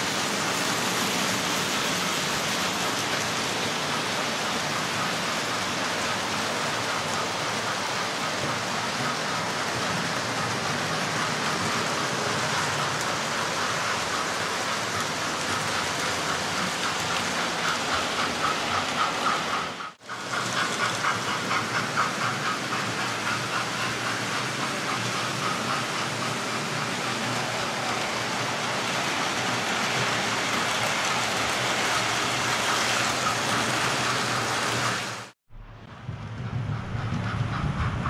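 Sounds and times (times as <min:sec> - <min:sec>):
model train wheels and motors: 0:00.0 - 0:38.0
wheels clicking over rail joints: 0:00.8 - 0:35.3.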